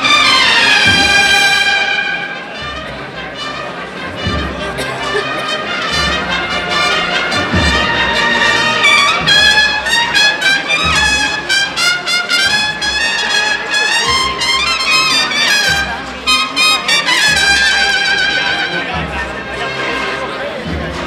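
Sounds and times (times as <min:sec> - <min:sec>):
heavy low drum beats: 0:00.0 - 0:19.7, 0:20.6 - 0:21.0
cornets playing a march: 0:00.0 - 0:21.0
rattling snare drums: 0:00.3 - 0:03.0, 0:04.1 - 0:19.3.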